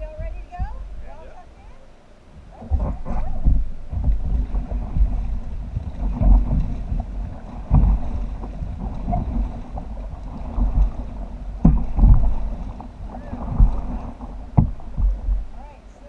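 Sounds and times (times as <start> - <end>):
paddles splashing in water: 0.0 - 16.0
wind rumble on microphone: 0.0 - 16.0.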